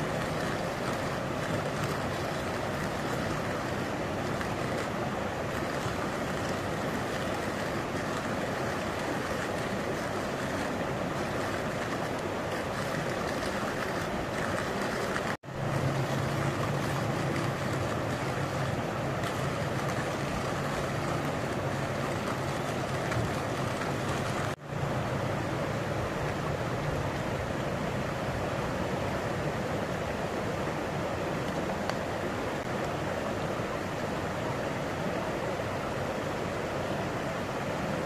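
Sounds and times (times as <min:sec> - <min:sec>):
shallow river flowing: 0:00.0 - 0:38.0.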